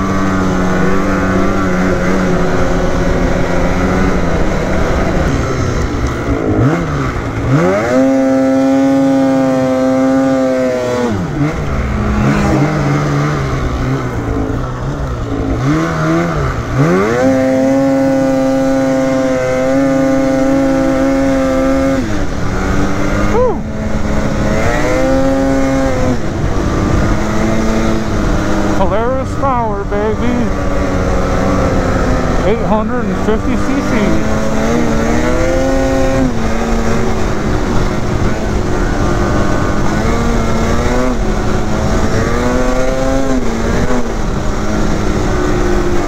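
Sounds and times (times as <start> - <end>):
snowmobile engine revving: 0.0 - 46.0
wind and track noise: 0.0 - 46.0.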